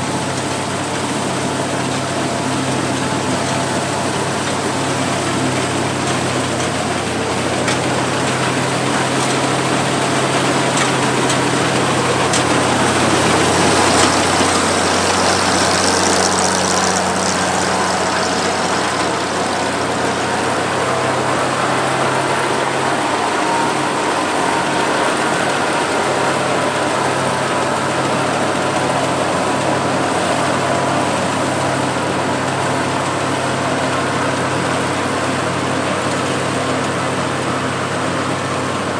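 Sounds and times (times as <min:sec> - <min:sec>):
combine harvester engine running: 0:00.0 - 0:38.9
threshing machinery: 0:00.0 - 0:38.9.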